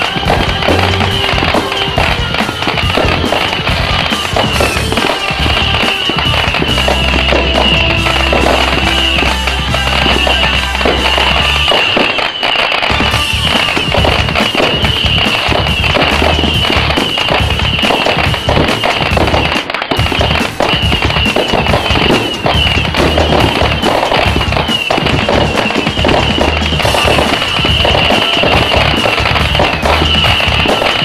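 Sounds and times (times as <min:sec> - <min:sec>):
music with pulsing bass: 0:00.0 - 0:12.0, 0:12.9 - 0:31.0
fireworks bursting and crackling: 0:00.0 - 0:31.0.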